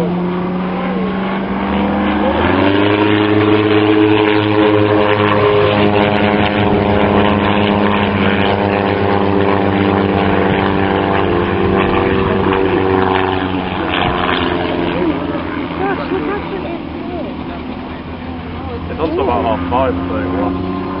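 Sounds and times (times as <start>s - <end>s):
propeller aircraft engine droning: 0.0s - 21.0s.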